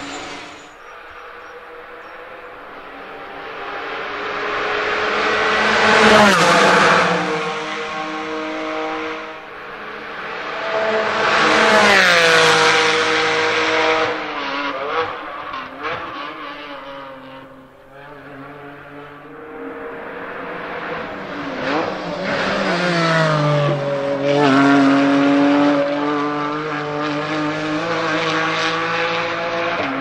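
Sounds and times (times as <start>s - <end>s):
sports car engine passing at speed: 0.0s - 30.0s.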